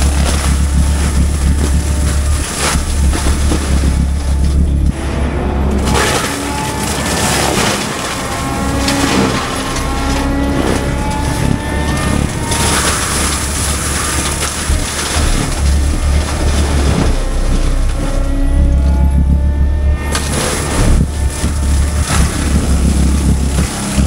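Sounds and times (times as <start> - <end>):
heavy diesel machinery rumbling: 0.0 - 24.0.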